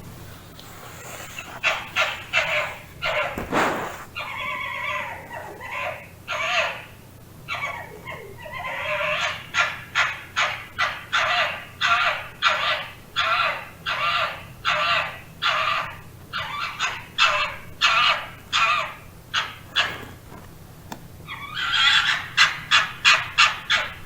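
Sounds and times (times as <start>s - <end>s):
fox barking: 1.0s - 20.3s, 21.3s - 24.0s
fox drawn-out calls: 1.0s - 20.3s, 21.3s - 24.0s.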